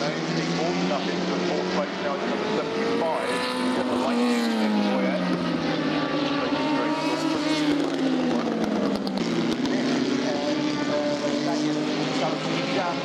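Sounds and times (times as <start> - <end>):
racing car engine running: 0.0 - 13.0.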